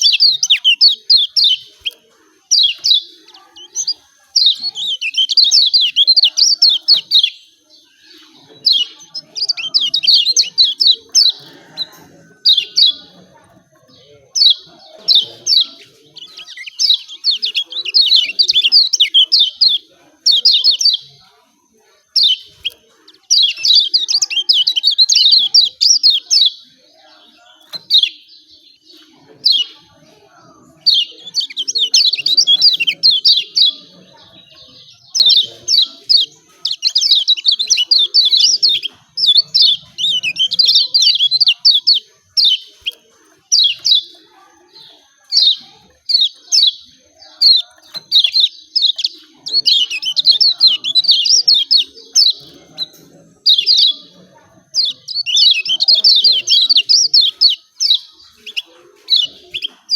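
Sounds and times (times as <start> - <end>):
high-pitched bird chirps: 0.0 - 21.3, 22.0 - 59.9.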